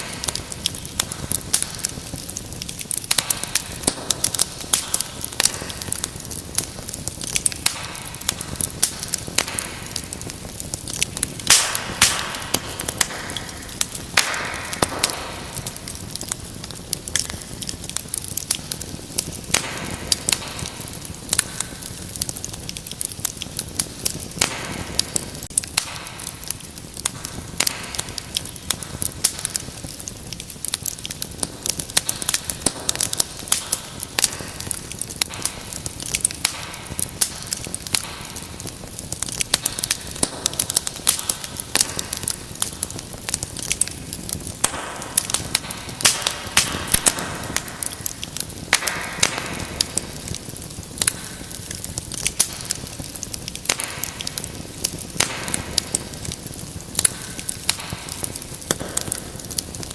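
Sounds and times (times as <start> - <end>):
fire crackling and popping: 0.0 - 59.9
low hiss of burning: 0.0 - 59.9.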